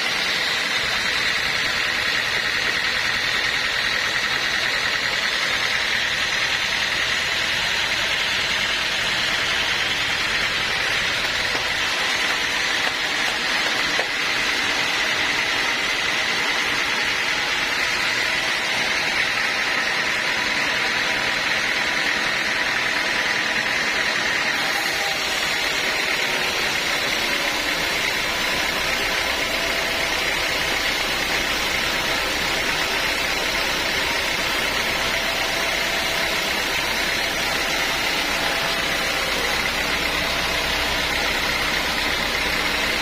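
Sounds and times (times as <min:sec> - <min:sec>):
sawmill machinery whine: 0:00.0 - 0:43.0.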